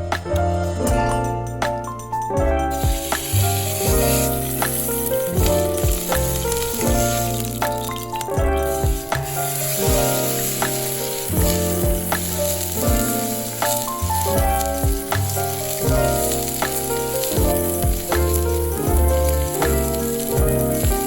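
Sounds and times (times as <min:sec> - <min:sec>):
background music with bass and beat: 0:00.0 - 0:21.0
steak sizzling in a frying pan: 0:02.7 - 0:21.0.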